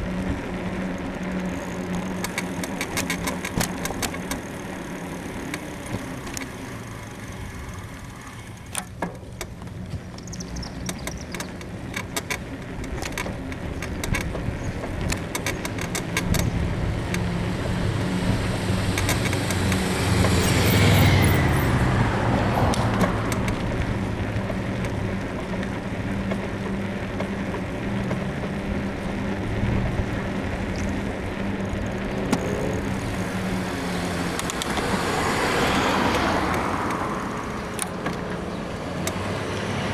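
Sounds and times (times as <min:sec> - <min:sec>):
bicycle suspension creaking: 0:00.0 - 0:39.8
low engine hum: 0:00.0 - 0:39.9
motor vehicle passing: 0:00.0 - 0:39.9.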